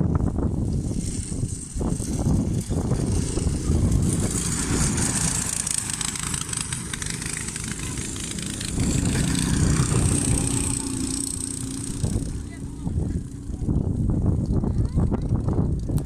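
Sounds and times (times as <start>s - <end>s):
small kart engines passing: 0.2s - 16.0s.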